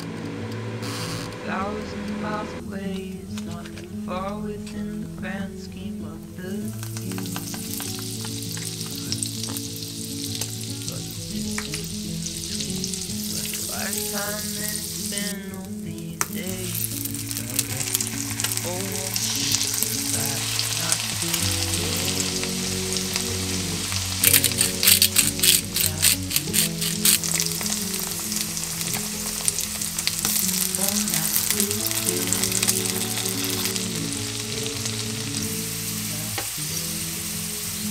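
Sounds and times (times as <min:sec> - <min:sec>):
soft background music: 0:00.0 - 0:37.9
butter sizzling in frying pan: 0:06.7 - 0:15.4, 0:16.2 - 0:37.9.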